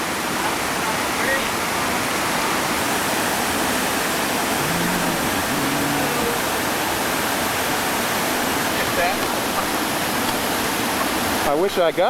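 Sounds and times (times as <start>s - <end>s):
whitewater rapid roaring: 0.0s - 12.0s.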